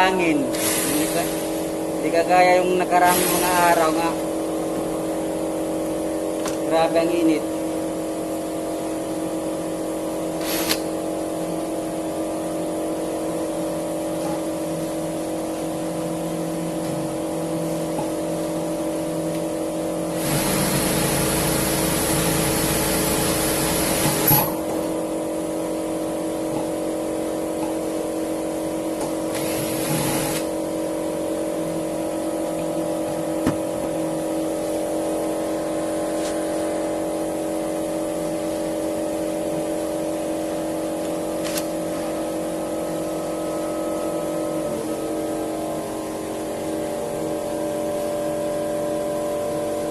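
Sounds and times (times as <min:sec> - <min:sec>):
steady mechanical hum: 0:00.0 - 0:49.9.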